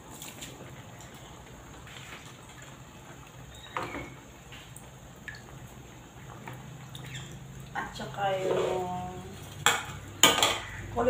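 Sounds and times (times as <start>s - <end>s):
broth bubbling in a wok: 0.0s - 11.0s
light clicks and drips: 0.0s - 11.0s.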